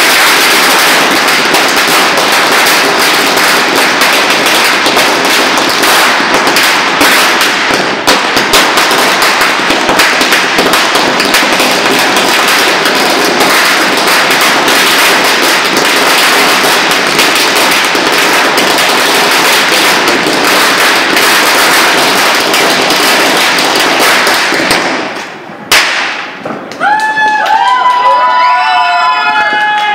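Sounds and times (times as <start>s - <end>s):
firecracker chain bangs and crackles: 0.0s - 26.7s
loud firecracker bang: 0.0s - 26.7s.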